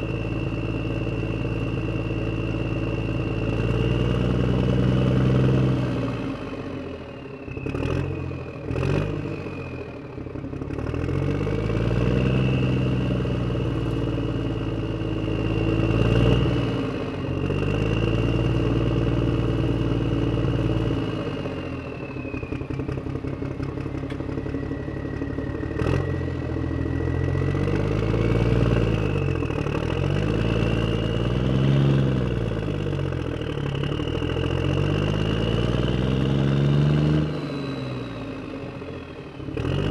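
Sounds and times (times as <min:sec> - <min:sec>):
vehicle engine revving: 0:07.5 - 0:39.9.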